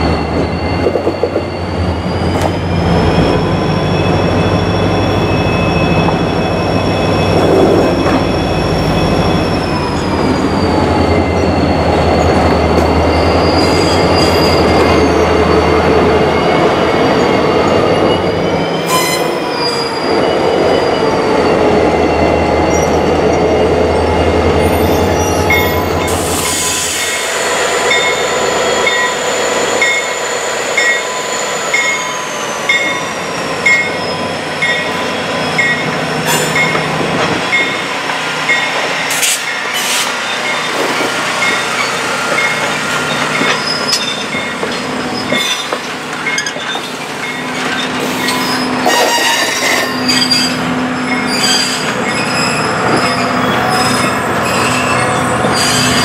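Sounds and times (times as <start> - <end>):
rail clicks: 0.0 - 20.7, 24.4 - 56.0
diesel locomotive drone: 0.0 - 56.0
train wheel squeal: 0.0 - 56.0.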